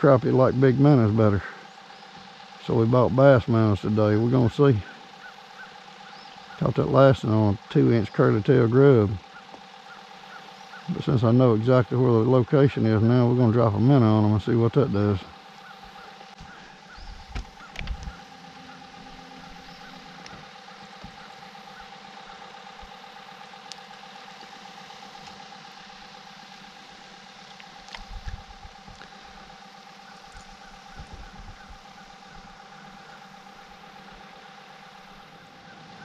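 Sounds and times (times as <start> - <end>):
electric trolling motor whine: 0.0 - 36.0.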